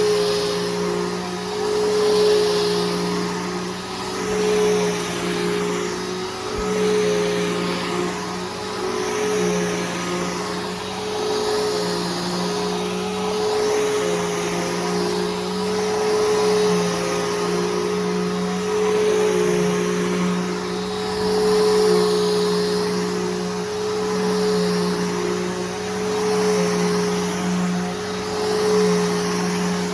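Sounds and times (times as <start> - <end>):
upright vacuum cleaner running: 0.0 - 29.9.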